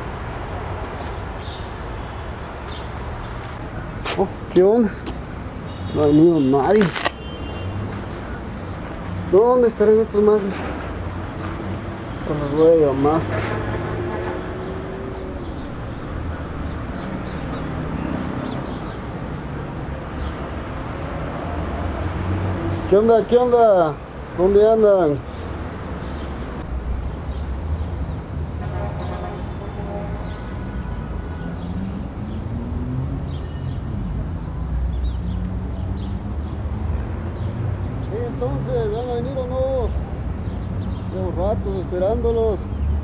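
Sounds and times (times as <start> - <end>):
low street rumble: 0.0 - 43.0.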